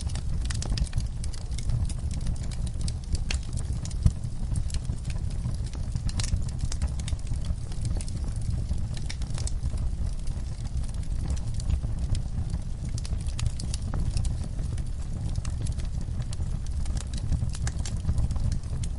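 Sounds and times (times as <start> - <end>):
low fire rumble: 0.0 - 18.9
wood fire crackling and popping: 0.0 - 18.9.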